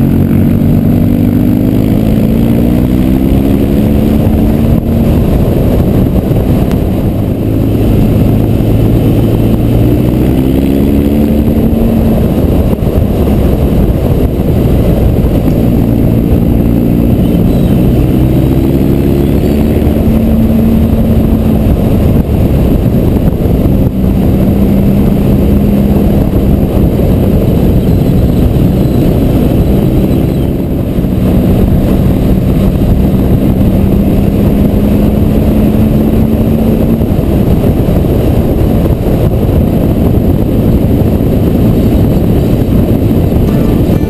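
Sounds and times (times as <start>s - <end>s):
motorcycle engine running: 0.0s - 44.0s
wind rushing over microphone: 0.0s - 44.0s.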